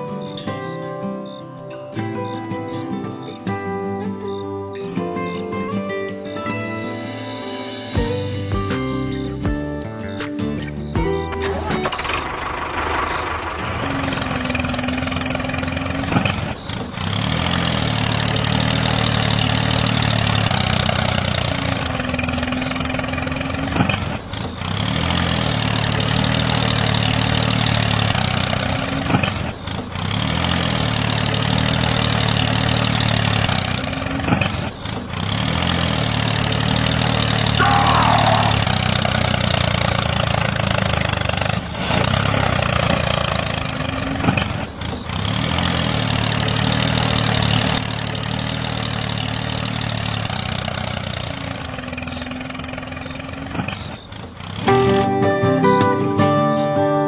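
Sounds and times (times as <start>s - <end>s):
tractor engine starting and idling: 7.7s - 57.0s.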